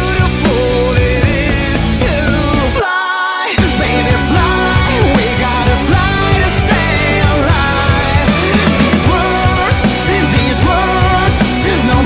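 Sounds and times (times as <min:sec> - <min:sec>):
pop-rock song: 0:00.0 - 0:12.0.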